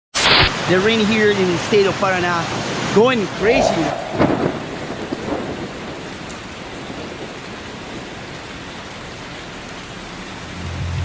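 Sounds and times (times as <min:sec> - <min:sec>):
heavy rain pouring: 0:00.2 - 0:11.0.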